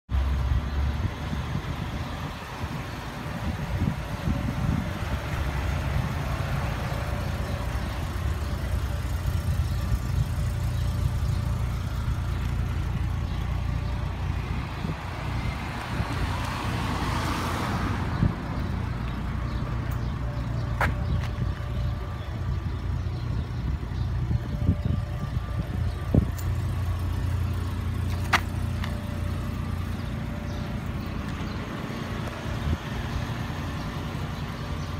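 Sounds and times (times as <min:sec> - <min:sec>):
car engine humming: 0:00.1 - 0:34.9.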